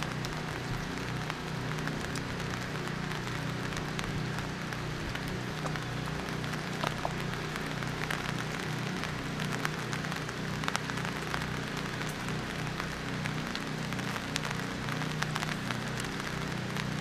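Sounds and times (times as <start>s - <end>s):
low steady hum: 0.0s - 17.0s
rain pattering: 0.0s - 17.0s.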